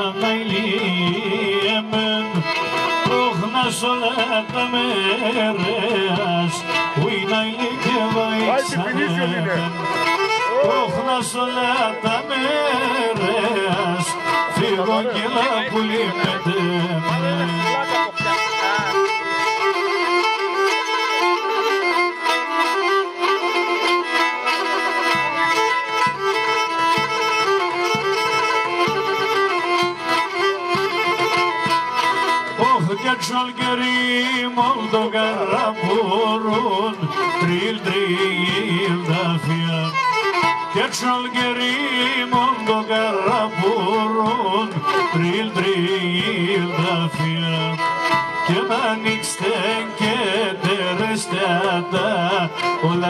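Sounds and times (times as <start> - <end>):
bowed lyra folk tune: 0.0 - 53.0
drum beats: 0.0 - 53.0.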